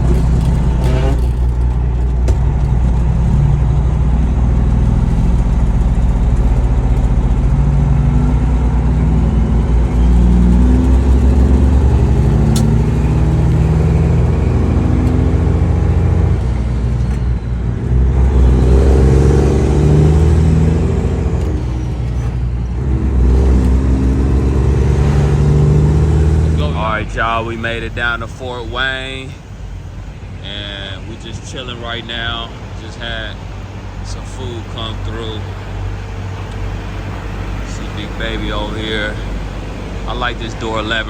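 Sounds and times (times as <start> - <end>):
road noise: 0.0 - 41.0
truck diesel engine: 0.0 - 41.0.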